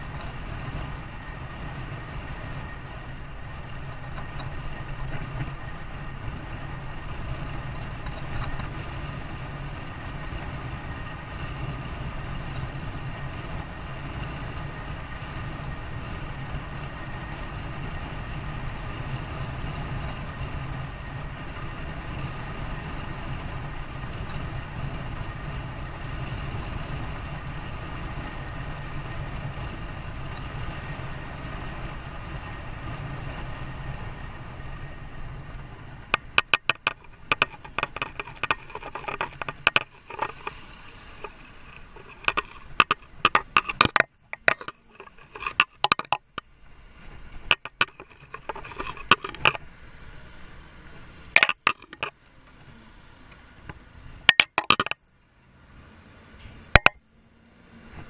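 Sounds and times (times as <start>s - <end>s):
motor vehicle low rumble: 0.0s - 58.0s.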